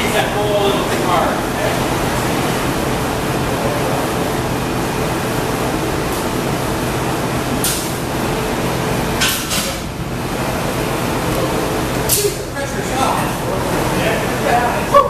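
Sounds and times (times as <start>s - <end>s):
fans and equipment roaring: 0.0s - 15.0s.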